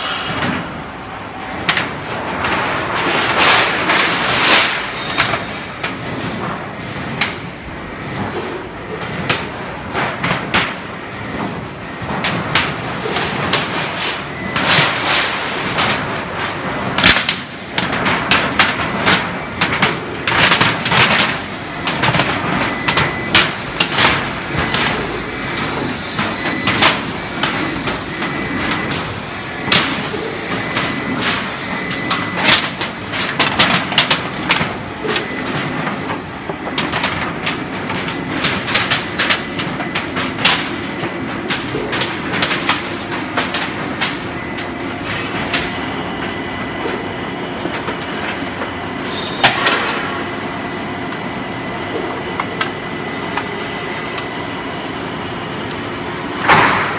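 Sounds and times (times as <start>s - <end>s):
machine running: 0.0s - 56.9s.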